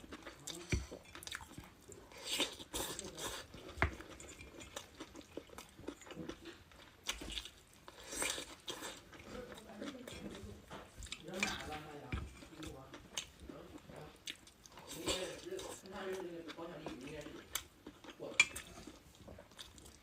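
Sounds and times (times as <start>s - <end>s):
close chewing mouth sounds: 0.0s - 20.0s.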